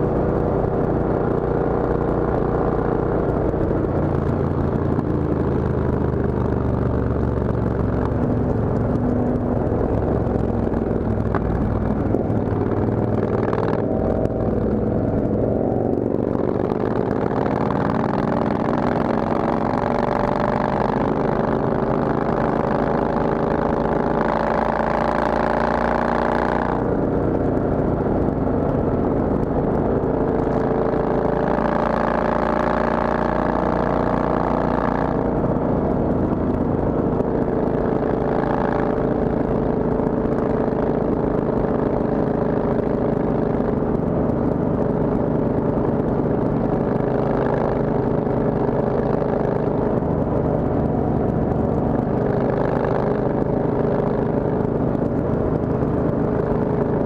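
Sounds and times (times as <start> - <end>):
motorcycle engine on the move: 0.0 - 57.0.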